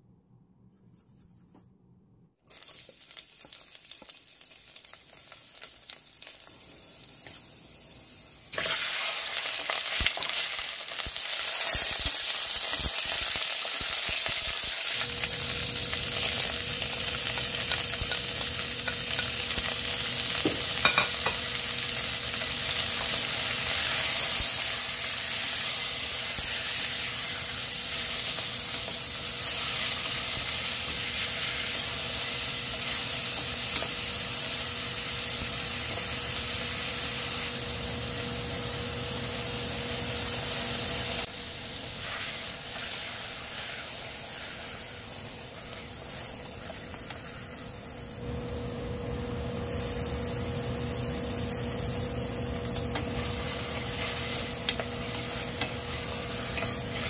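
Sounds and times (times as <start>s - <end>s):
food sizzling in a pot: 2.4s - 57.0s.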